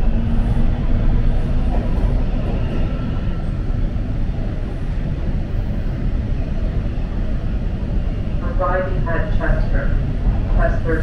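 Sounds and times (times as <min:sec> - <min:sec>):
subway train rumble: 0:00.0 - 0:11.0.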